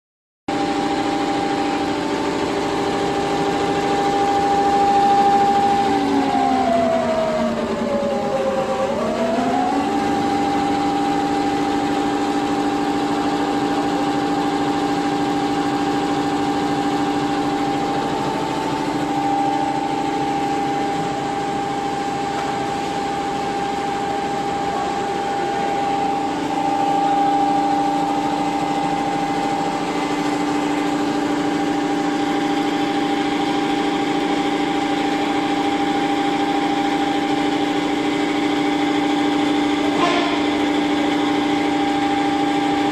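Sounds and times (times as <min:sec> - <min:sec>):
embroidery machine humming: 0:00.5 - 0:42.9.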